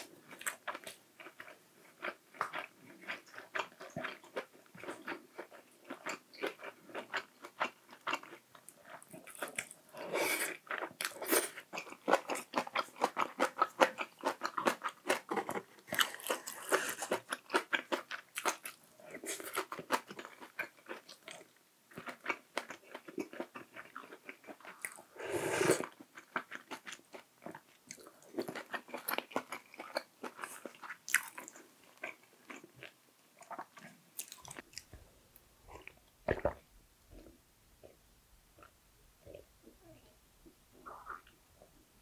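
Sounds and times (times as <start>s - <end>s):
person chewing food: 0.0s - 35.1s, 35.7s - 38.0s, 40.7s - 41.4s.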